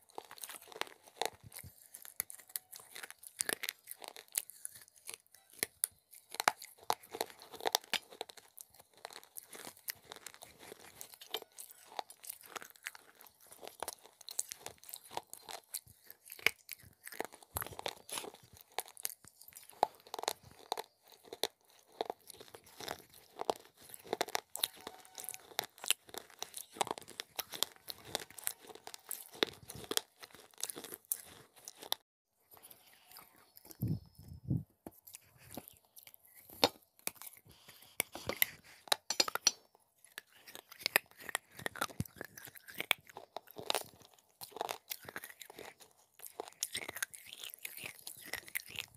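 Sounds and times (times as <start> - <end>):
clay pot pieces crunching: 0.0 - 48.9.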